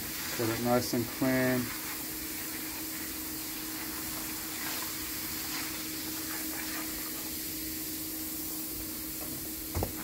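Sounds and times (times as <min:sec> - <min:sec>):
foam fizzing: 0:00.0 - 0:10.0.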